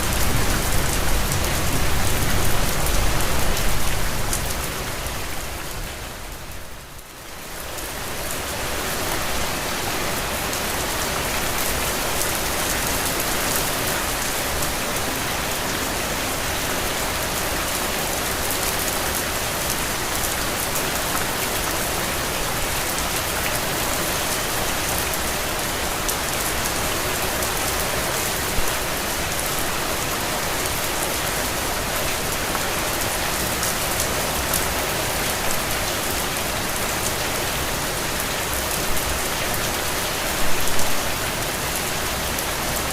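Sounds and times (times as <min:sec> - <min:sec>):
steady rain patter: 0:00.0 - 0:42.9.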